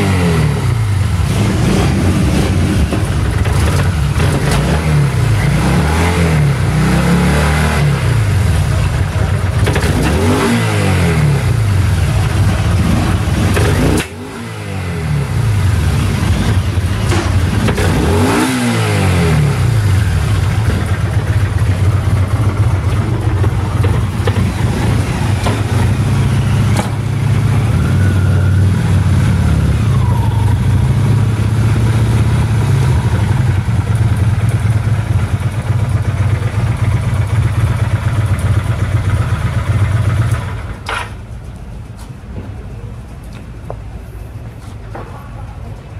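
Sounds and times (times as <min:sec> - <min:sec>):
motorcycle engine revving and idling: 0:00.0 - 0:41.5.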